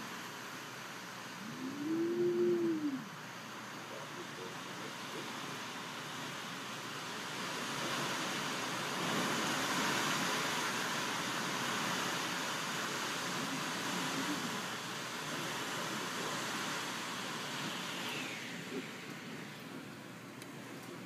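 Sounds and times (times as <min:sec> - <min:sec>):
wind gusting through trees: 0:00.0 - 0:21.0.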